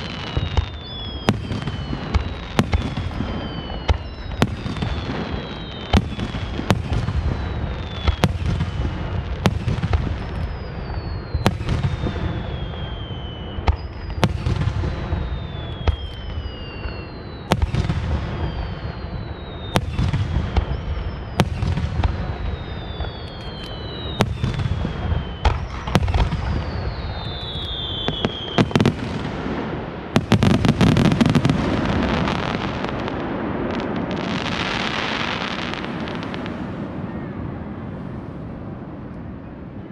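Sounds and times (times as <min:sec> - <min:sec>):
descending firework whistle: 0:00.0 - 0:39.9
firework crackle and rumble: 0:00.0 - 0:39.9.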